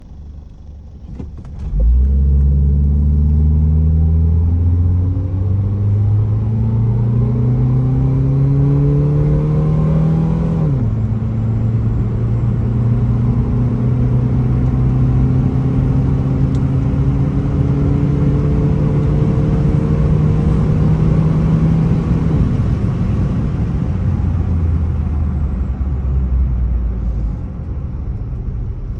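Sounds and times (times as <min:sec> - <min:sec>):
car engine accelerating: 0:00.0 - 0:28.9
road and wind noise: 0:00.0 - 0:28.9.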